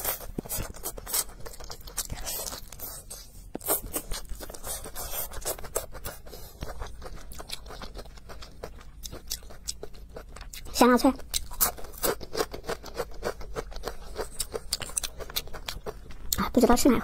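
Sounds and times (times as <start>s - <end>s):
chewing crunchy leaf: 0.0s - 16.5s.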